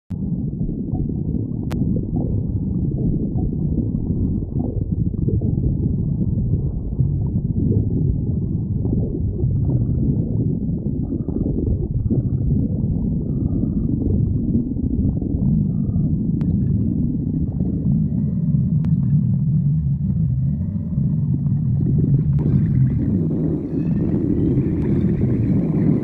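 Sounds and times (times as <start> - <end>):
stomach growling and gurgling: 0.1 - 26.0.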